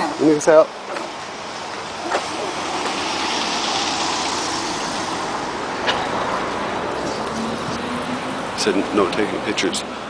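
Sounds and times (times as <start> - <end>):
motor vehicle passing: 0.8 - 10.0.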